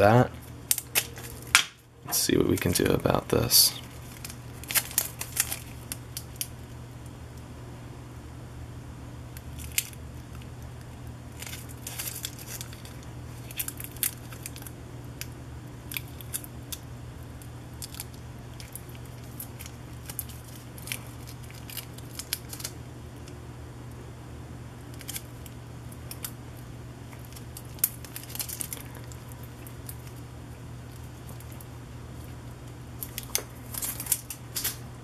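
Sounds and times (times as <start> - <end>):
steady low hum: 0.0 - 35.0
packing tape crackling: 0.4 - 6.7, 9.4 - 23.4, 24.8 - 34.9.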